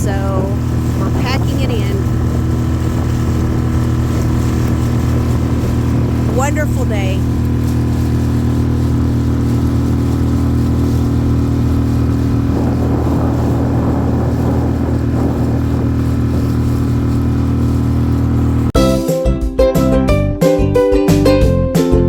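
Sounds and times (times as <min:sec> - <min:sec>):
outboard motor running: 0:00.0 - 0:18.8.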